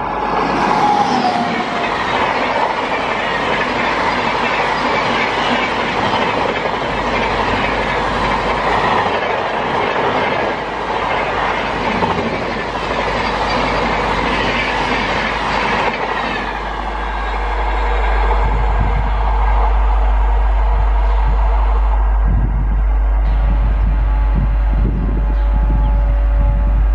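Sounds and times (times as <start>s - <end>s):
train coaches rushing past: 0.0s - 22.3s.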